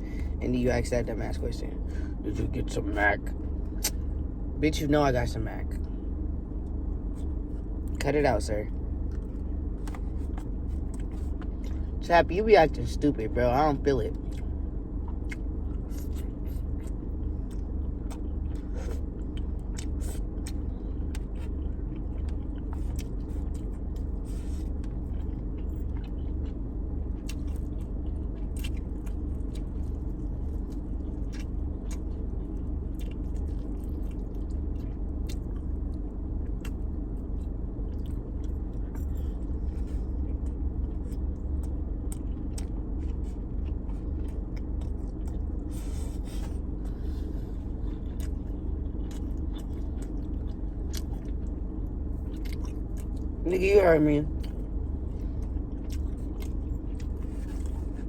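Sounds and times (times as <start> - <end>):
steady low hum: 0.0 - 58.0
chewing and biting food: 3.2 - 4.2, 8.7 - 12.0, 13.8 - 53.4, 54.3 - 58.0.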